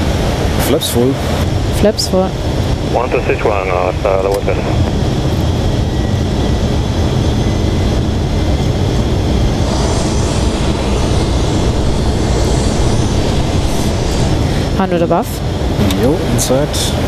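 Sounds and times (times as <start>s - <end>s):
aircraft engines rumbling: 0.0s - 17.0s.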